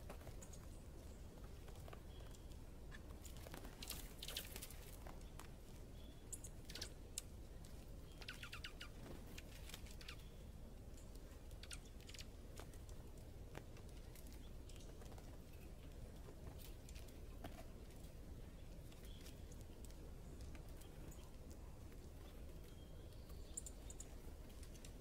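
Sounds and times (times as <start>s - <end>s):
low steady background rumble: 0.0s - 25.0s
small birds chirping: 0.0s - 25.0s.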